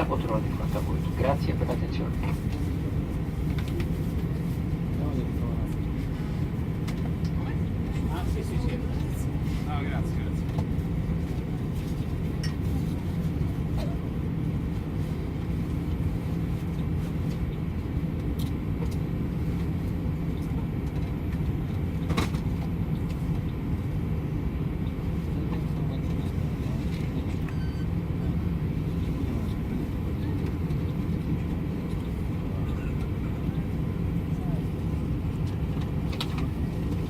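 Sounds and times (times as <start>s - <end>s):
airliner cabin engine rumble: 0.0s - 37.0s.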